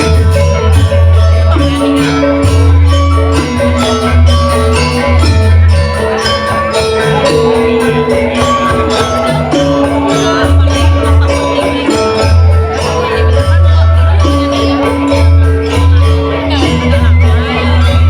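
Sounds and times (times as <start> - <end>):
metallophone notes ringing: 0.0 - 18.0
shimmering cymbal clashes: 0.0 - 18.0.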